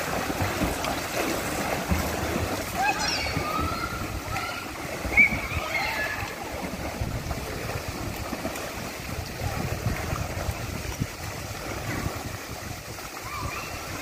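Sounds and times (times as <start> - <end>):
spouts pouring into pool: 0.0 - 14.0
swimmer splashing: 0.0 - 14.0
wind on microphone: 0.0 - 14.0.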